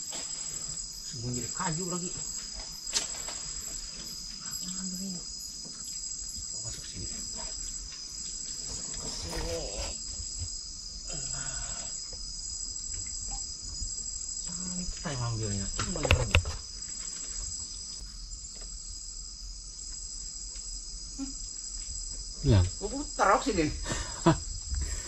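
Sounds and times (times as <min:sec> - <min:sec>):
insects high-pitched ringing: 0:00.0 - 0:25.0
pulsing insect chirp: 0:00.0 - 0:25.0.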